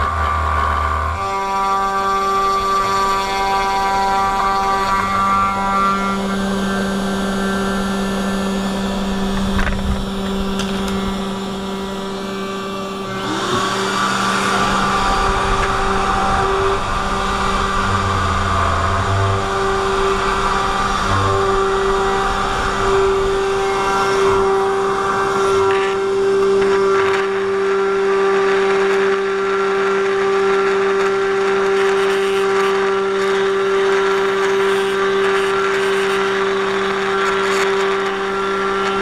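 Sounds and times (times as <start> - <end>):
router spindle whining: 0.0 - 39.0.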